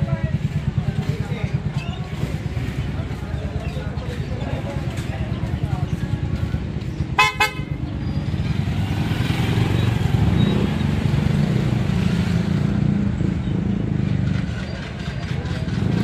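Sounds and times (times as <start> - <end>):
small motorcycle engine rumbling: 0.0 - 16.0.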